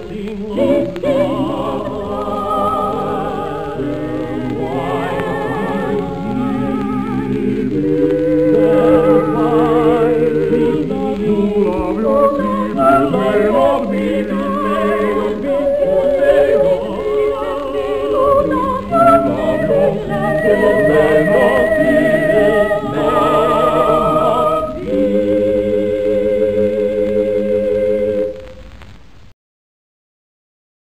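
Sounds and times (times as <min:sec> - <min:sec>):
lower voices singing in harmony: 0:00.0 - 0:28.6
soprano singing with vibrato: 0:00.0 - 0:28.6.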